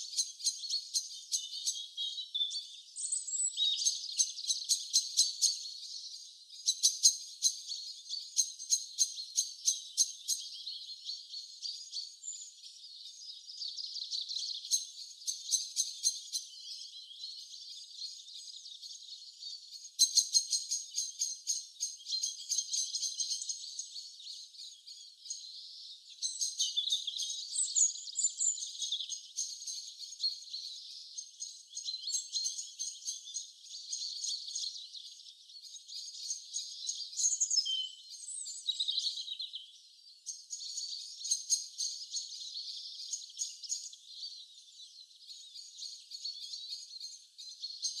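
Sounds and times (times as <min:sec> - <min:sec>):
small birds chirping: 0:00.0 - 0:48.0
whistled bird notes: 0:00.0 - 0:48.0.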